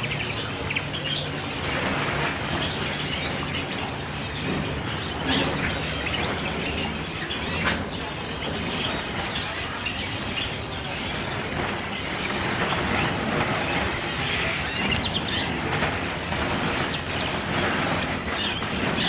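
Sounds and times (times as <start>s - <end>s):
canaries chirping: 0.0s - 19.0s
steady low hum: 0.0s - 19.0s.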